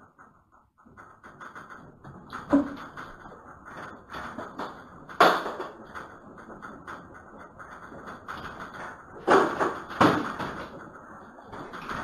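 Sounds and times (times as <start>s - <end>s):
shelving and goods rattling: 0.0s - 12.0s.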